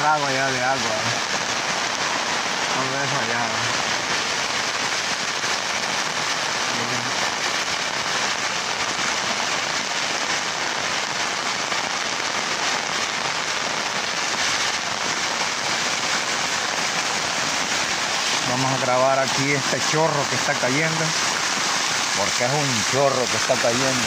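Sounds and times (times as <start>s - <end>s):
heavy rain hissing: 0.0s - 24.0s
rain drops on umbrella fabric: 0.0s - 24.0s.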